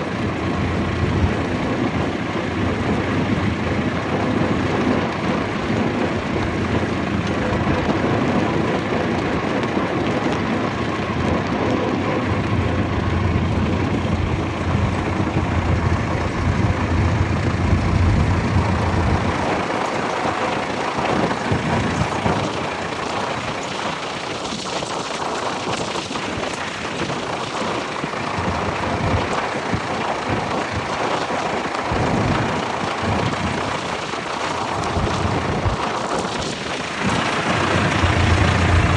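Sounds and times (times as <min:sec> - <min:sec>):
tractor engines rumbling: 0:00.0 - 0:38.9.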